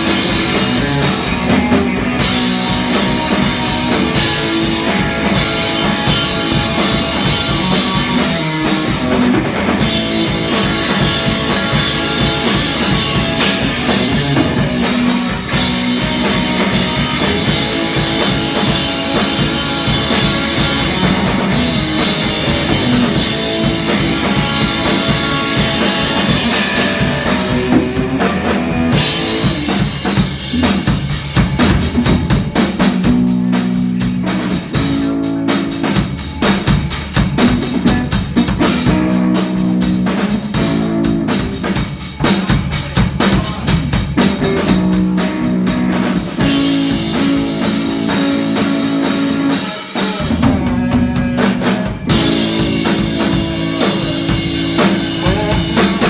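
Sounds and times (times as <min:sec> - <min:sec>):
live rock band playing: 0:00.0 - 0:56.0
loud driving drum kit: 0:00.0 - 0:56.0.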